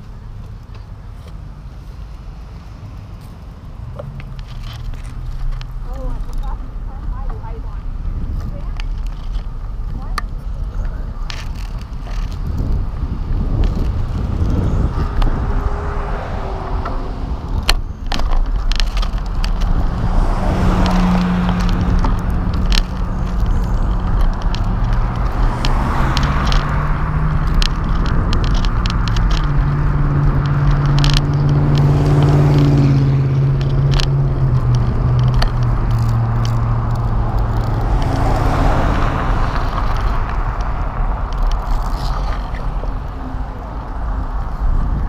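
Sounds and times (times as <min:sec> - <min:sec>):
cars passing: 0:00.0 - 0:45.0
wind rumbling on microphone: 0:00.0 - 0:45.0
bike clicks and rattles: 0:03.2 - 0:15.7, 0:16.8 - 0:45.0.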